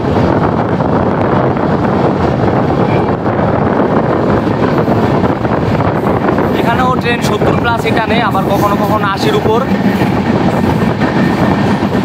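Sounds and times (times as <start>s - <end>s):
train running on track: 0.0s - 12.0s
wind buffeting microphone: 0.0s - 12.0s.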